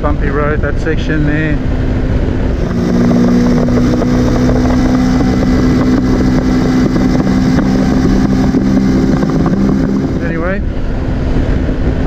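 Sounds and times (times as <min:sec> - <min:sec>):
wind rumbling on microphone: 0:00.0 - 0:12.0
motorcycle engine cruising: 0:01.3 - 0:12.0.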